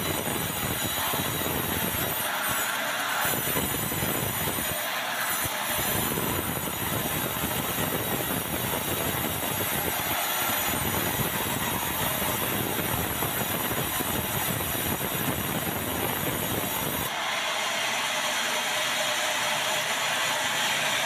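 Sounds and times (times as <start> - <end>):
band saw cutting timber: 0.0 - 21.0.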